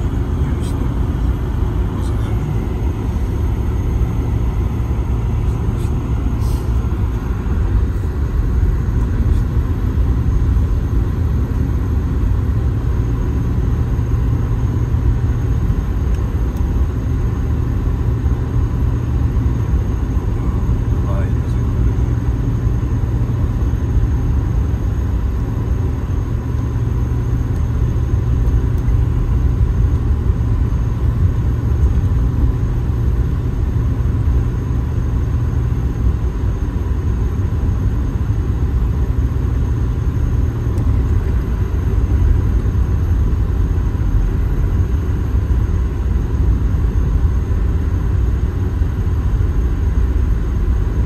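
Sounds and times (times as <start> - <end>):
car cabin road rumble: 0.0 - 51.0.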